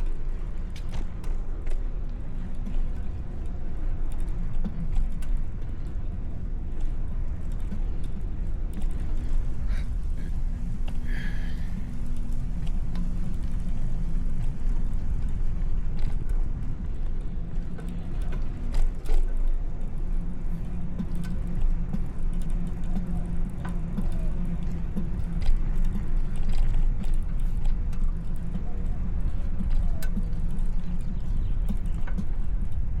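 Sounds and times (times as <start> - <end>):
bicycle rolling noise: 0.0 - 33.0
faint engine hum: 0.0 - 33.0
street traffic rumble: 0.0 - 33.0.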